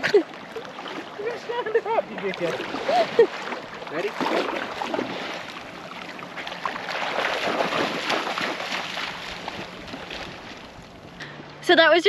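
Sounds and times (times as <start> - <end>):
seawater splashing and lapping: 0.0 - 11.6.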